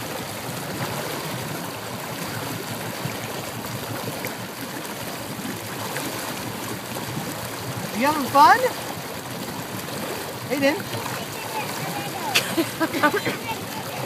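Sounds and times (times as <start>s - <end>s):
churning wake water: 0.0s - 14.0s
motorboat motor running: 0.0s - 14.0s.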